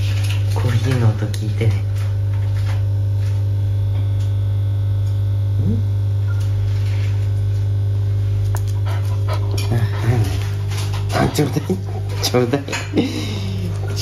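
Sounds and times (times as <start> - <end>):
coffee maker humming: 0.0 - 14.0.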